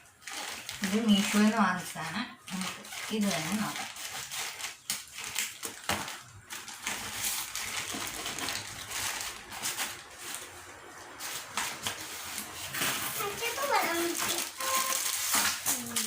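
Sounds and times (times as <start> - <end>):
packaging crackling and rustling: 0.0 - 16.0
plastic parcel being torn open: 0.0 - 16.0.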